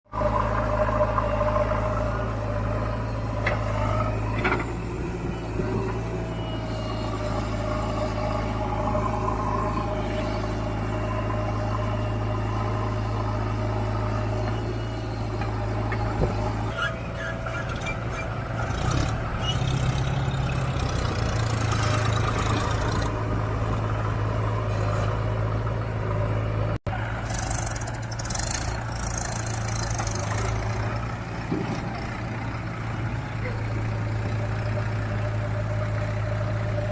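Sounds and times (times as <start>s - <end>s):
tractor diesel engines under load: 0.0s - 36.9s.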